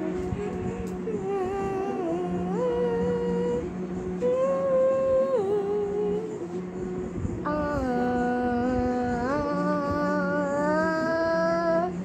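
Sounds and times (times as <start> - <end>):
girl singing wordless notes: 0.0 - 12.0.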